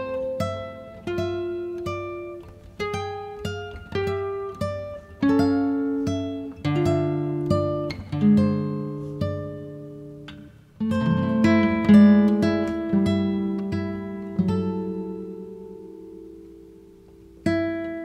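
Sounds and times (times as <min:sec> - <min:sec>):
acoustic guitar plucking: 0:00.0 - 0:18.0.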